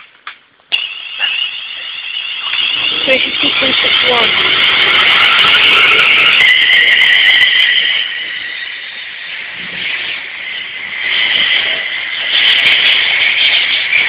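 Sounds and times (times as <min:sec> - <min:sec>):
electric train passing at speed: 0:01.0 - 0:14.0.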